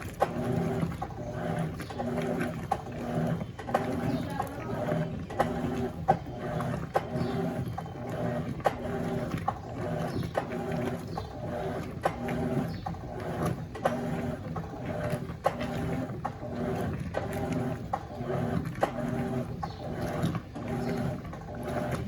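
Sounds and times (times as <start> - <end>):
washing machine motor humming: 0.0 - 22.0.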